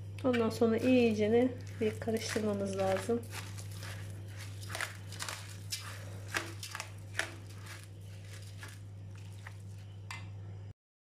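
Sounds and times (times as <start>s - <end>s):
steady low hum: 0.0s - 10.7s
hand kneading wet mixture: 0.3s - 10.1s.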